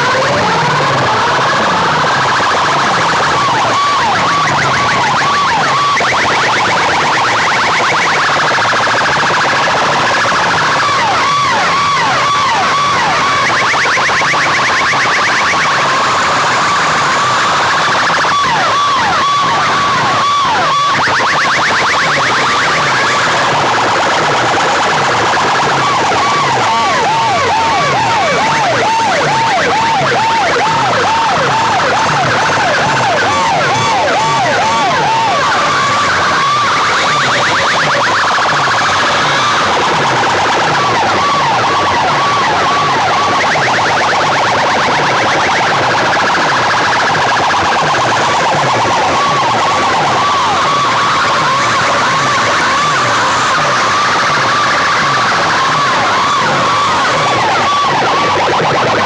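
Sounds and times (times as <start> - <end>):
electronic siren warble over loudspeakers: 0.0 - 59.0.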